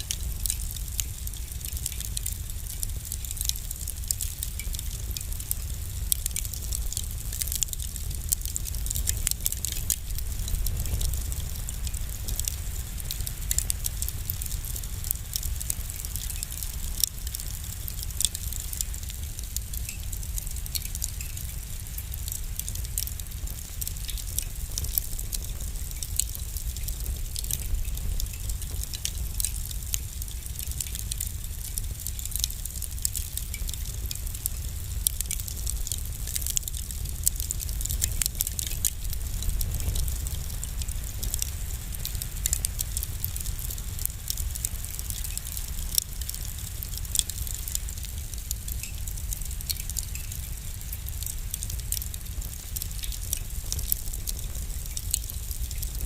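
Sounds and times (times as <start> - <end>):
low rumble and hiss of flames: 0.0 - 56.0
wood fire crackling and popping: 0.0 - 56.0.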